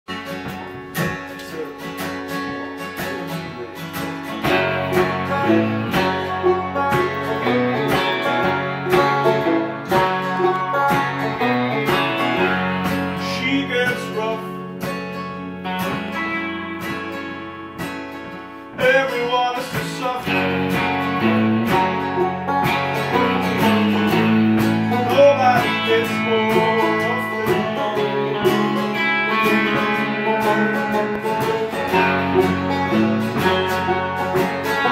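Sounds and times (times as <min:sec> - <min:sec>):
acoustic guitars playing: 0:00.1 - 0:34.9
banjo playing: 0:00.1 - 0:34.9.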